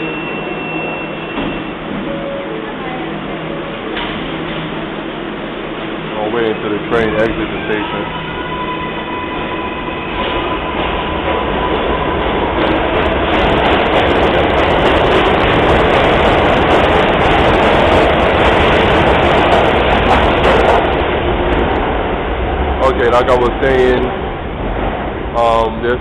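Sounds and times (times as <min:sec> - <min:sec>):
subway train whine: 0:00.0 - 0:26.0
train wheels rumbling on track: 0:00.0 - 0:26.0.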